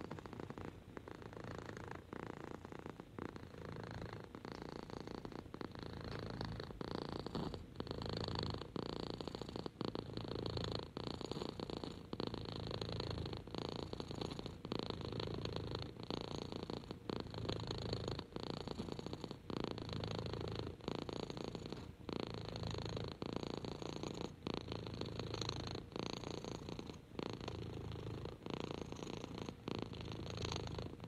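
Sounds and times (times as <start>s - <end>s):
kitten purring: 0.0s - 31.0s.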